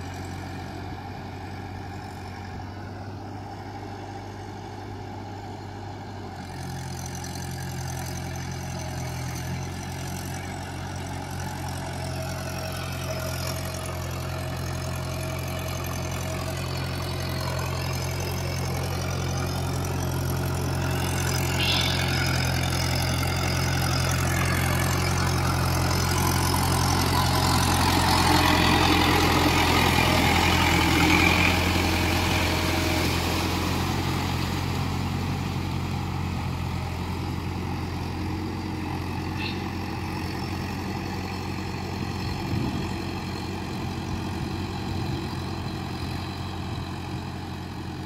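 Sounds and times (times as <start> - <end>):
tractor diesel engine: 0.0 - 48.0.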